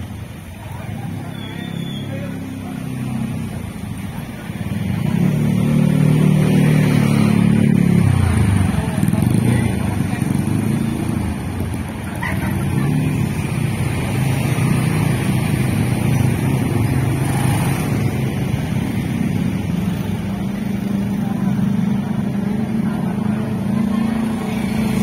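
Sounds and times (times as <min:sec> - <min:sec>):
motorcycles and scooters passing: 0:00.0 - 0:25.0.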